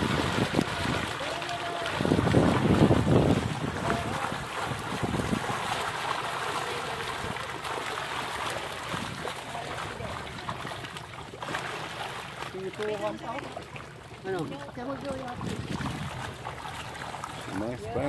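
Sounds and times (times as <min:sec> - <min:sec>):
pond water splashing: 0:00.0 - 0:18.0.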